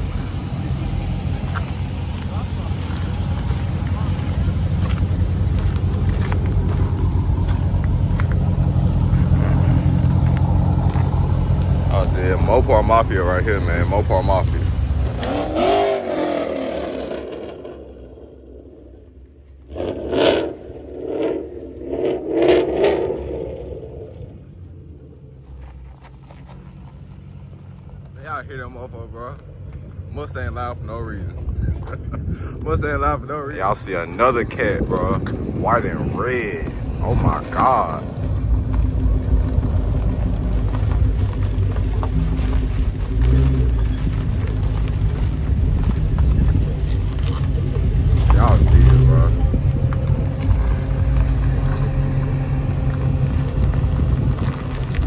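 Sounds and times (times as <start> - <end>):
car exhaust revving: 0.0 - 25.5, 32.0 - 55.0.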